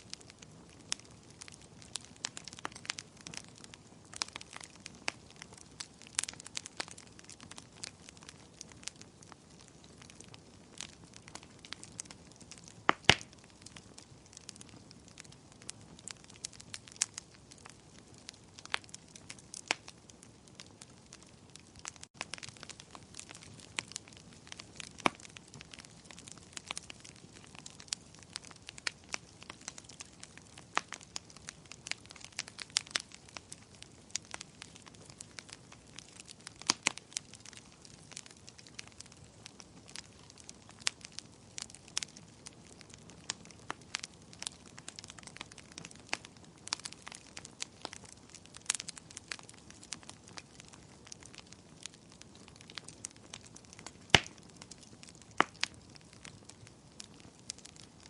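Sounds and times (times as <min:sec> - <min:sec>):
faint steady hiss: 0:00.0 - 0:53.2
wood fire crackling: 0:00.0 - 0:58.0.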